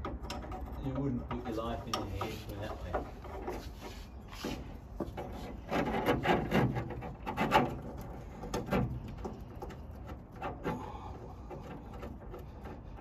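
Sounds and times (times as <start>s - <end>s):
metal parts knocking and scraping: 0.0s - 13.0s.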